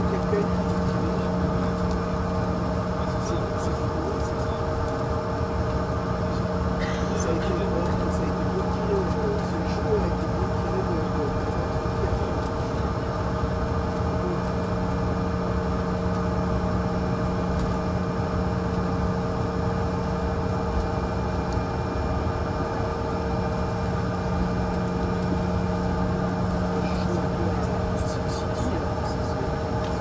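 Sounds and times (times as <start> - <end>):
jet engines idling hum: 0.0 - 30.0.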